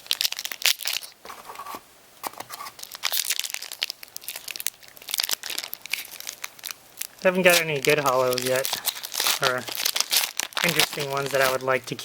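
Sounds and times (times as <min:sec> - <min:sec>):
wrapper crinkling and tearing: 0:00.0 - 0:01.2, 0:02.5 - 0:12.0.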